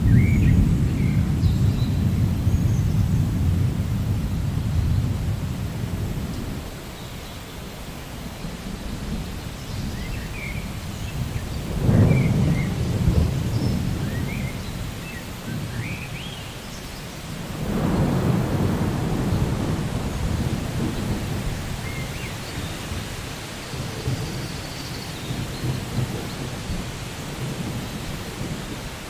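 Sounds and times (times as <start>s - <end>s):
rolling thunder: 0.0s - 6.8s, 8.5s - 15.9s, 17.4s - 29.0s
steady rain: 0.0s - 29.0s.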